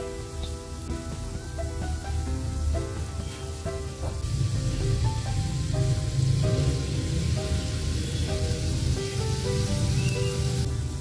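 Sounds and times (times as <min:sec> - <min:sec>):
background music: 0:00.0 - 0:11.0
fritters sizzling in oil: 0:00.0 - 0:11.0.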